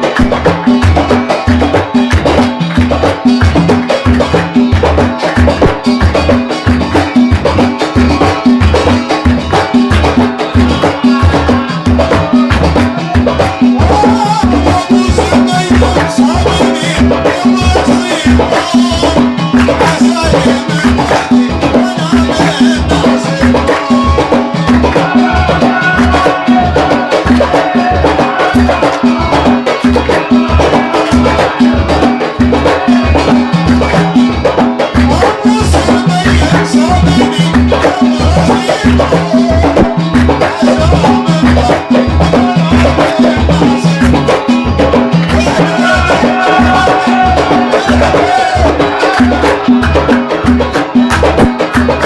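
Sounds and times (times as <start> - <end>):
fast drum rhythm: 0.0 - 52.0.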